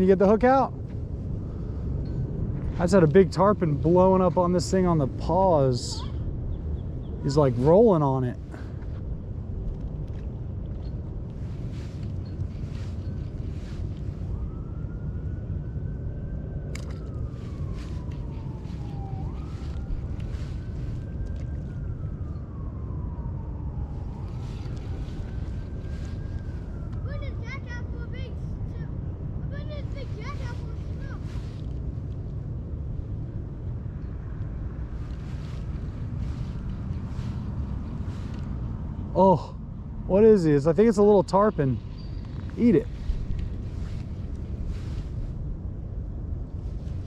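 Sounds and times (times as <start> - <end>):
distant siren wailing: 0.0 - 47.0
wind rumble on microphone: 0.0 - 47.0.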